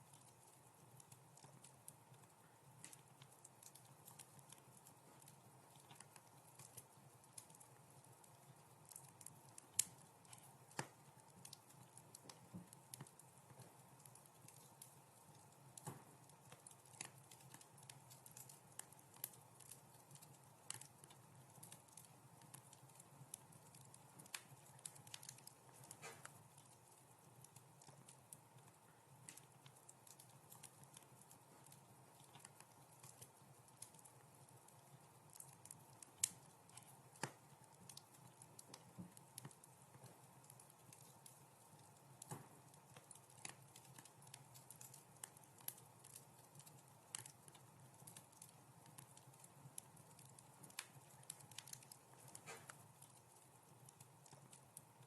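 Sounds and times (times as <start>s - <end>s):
low hiss of fire: 0.0s - 55.0s
wood fire crackling: 0.0s - 55.0s.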